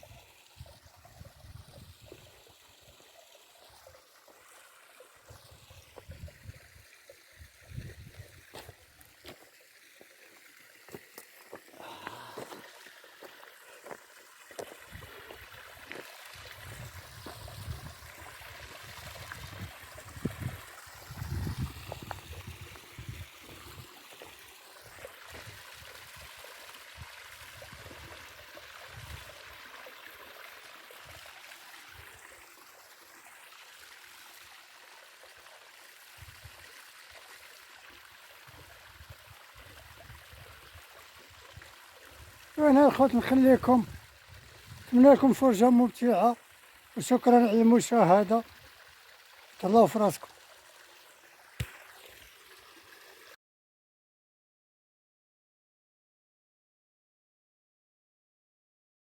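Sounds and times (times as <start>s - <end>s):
stream water trickling: 0.0s - 53.4s.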